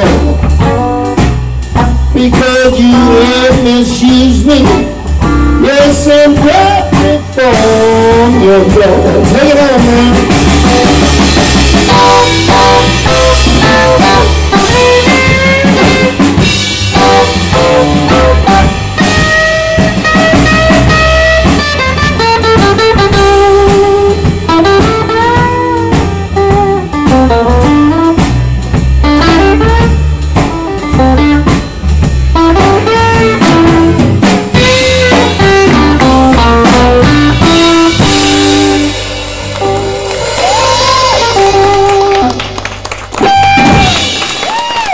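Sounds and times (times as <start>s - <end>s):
electric blues band: 0.0s - 44.9s
lead electric guitar: 0.0s - 44.9s.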